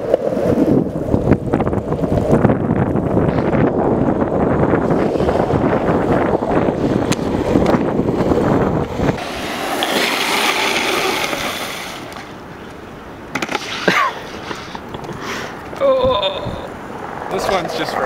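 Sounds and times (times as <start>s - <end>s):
longboard sliding on pavement: 0.0s - 18.0s
wheels rolling on asphalt: 0.0s - 18.0s
wind buffeting microphone: 0.0s - 18.0s.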